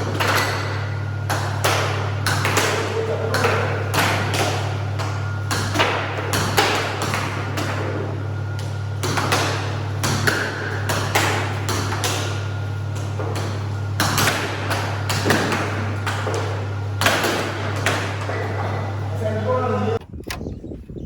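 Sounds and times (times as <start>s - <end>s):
sharp knocks and clacks: 0.0s - 19.2s
steady low hum: 0.0s - 21.0s.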